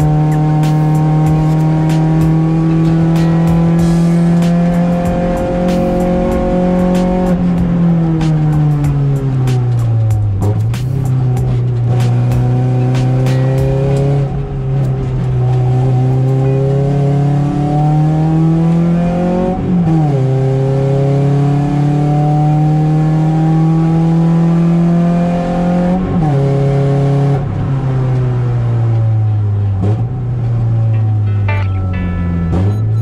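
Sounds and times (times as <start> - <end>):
car engine accelerating hard: 0.0 - 31.2.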